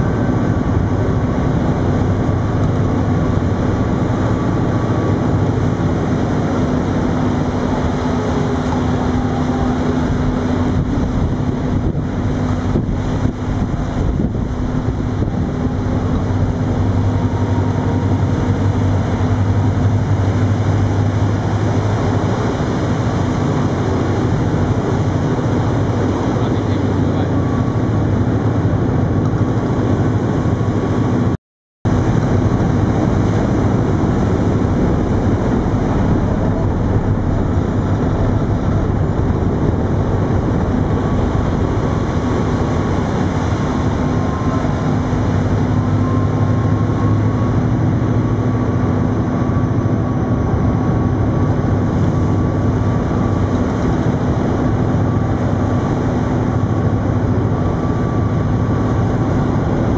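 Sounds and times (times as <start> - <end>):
diesel engines droning: 0.0 - 59.9
water rushing along a hull: 0.0 - 59.9.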